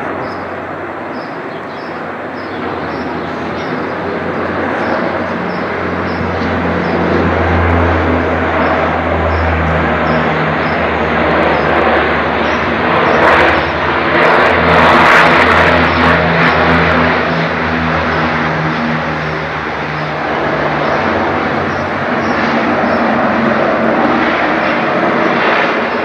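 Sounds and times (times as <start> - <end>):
propeller engines droning: 0.0 - 26.0.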